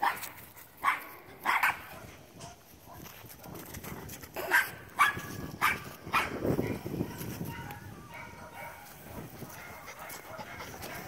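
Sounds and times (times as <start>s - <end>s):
puppy barking: 0.0s - 3.0s, 4.4s - 11.0s.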